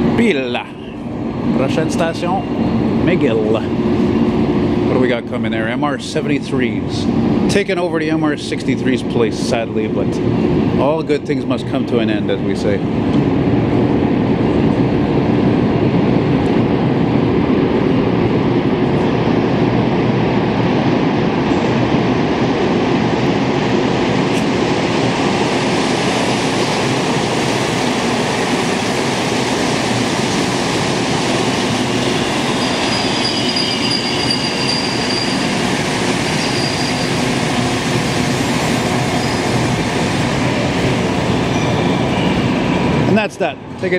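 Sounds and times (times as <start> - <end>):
subway train rumbling: 0.0 - 43.9.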